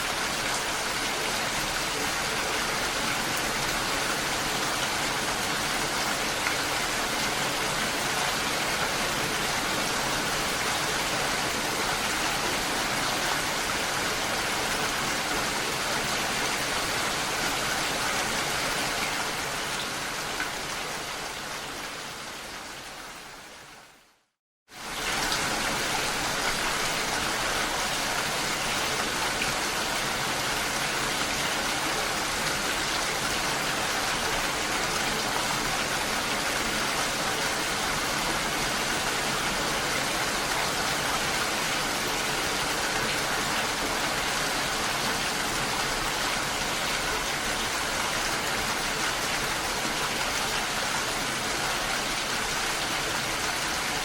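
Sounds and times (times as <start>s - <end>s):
dense rain falling: 0.0s - 54.0s.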